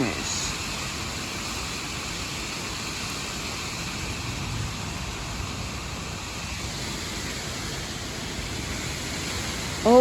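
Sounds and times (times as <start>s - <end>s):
strong wind gusts: 0.0s - 10.0s.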